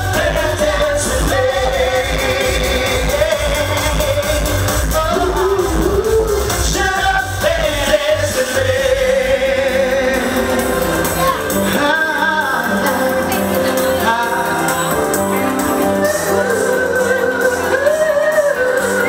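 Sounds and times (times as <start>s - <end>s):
amplified pop accompaniment: 0.0s - 19.0s
male vocal group singing: 0.0s - 19.0s.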